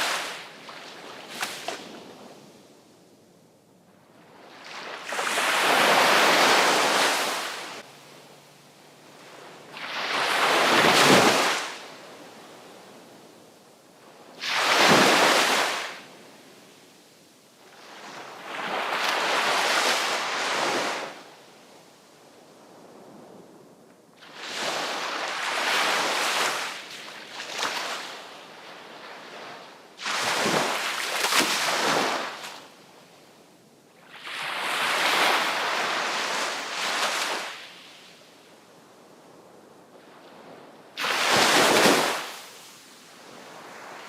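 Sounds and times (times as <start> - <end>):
sea waves breaking on shore: 0.0 - 2.5, 4.3 - 13.1, 14.3 - 16.2, 17.7 - 21.3, 24.2 - 32.9, 34.0 - 44.0.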